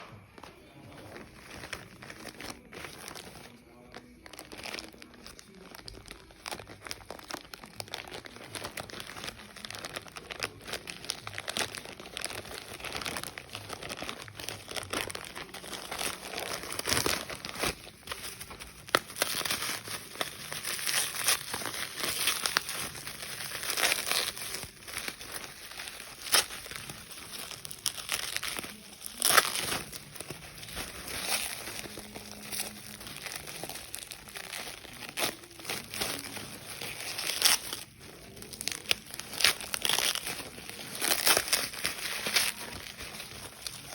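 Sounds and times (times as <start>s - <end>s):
packaging crinkling: 0.0s - 43.9s.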